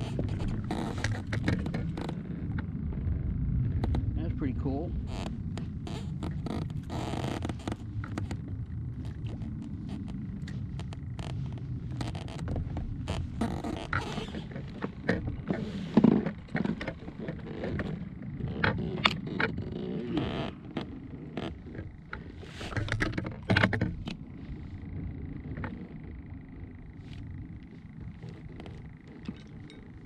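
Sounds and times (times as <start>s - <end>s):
gear rattling in kayak: 0.0s - 30.0s
low steady rumble: 0.0s - 30.0s.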